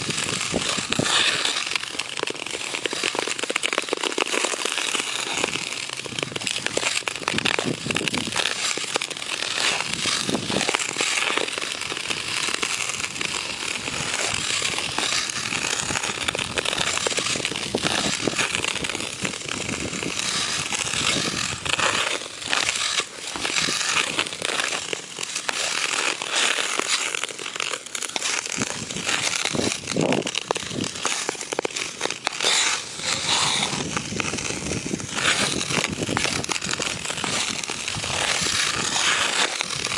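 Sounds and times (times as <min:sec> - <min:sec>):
skate blades scraping on ice: 0:00.0 - 0:39.9.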